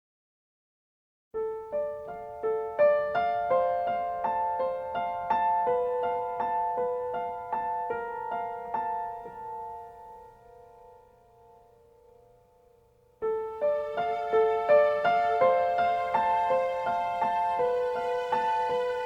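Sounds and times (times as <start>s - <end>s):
gentle piano melody: 1.4s - 19.0s.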